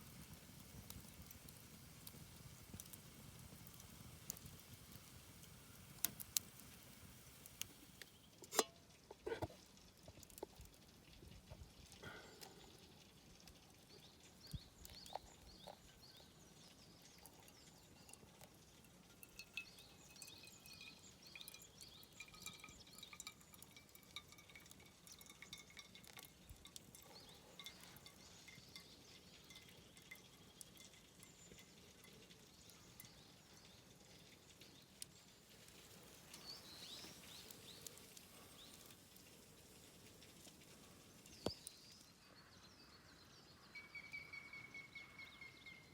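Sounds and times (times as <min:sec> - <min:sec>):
small birds chirping: 0:00.0 - 0:08.4, 0:13.6 - 0:24.0, 0:25.2 - 0:45.9
sharp crackles and clicks: 0:00.0 - 0:20.3, 0:21.3 - 0:42.1.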